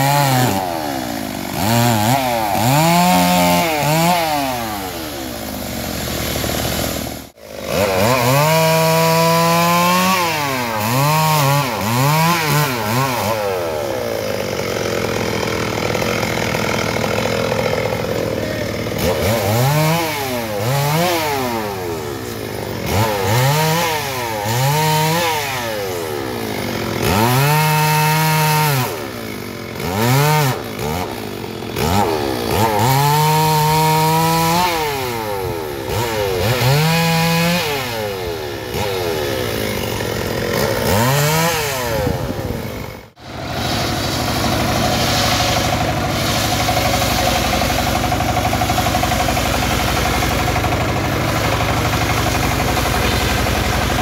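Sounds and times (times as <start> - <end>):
chainsaw revving: 0.0 - 54.0
sawmill engine drone: 0.0 - 54.0.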